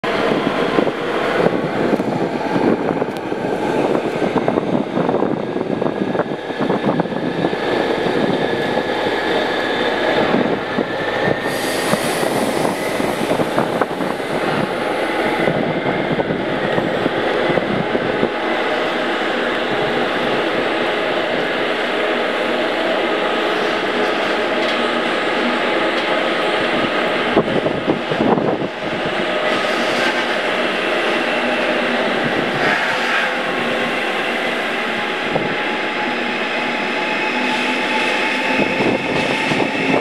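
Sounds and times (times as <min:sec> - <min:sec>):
train rumbling: 0:00.0 - 0:40.0.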